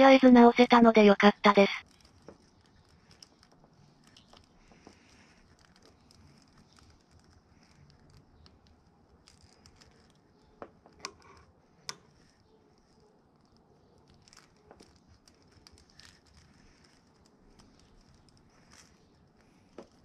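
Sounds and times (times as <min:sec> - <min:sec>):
plastic ticking and rustling: 0:01.8 - 0:20.0.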